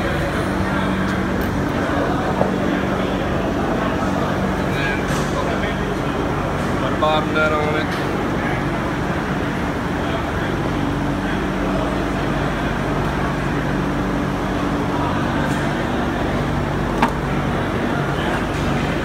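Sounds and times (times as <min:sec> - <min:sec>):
workshop hum and rumble: 0:00.0 - 0:19.0.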